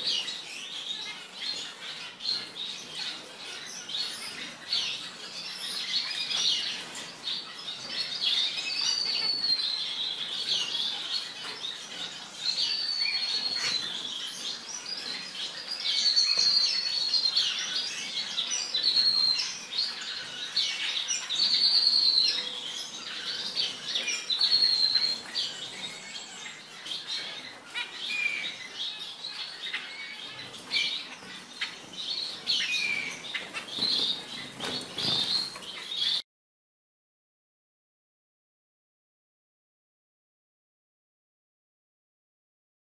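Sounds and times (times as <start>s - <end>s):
finches chirping: 0.0s - 36.2s.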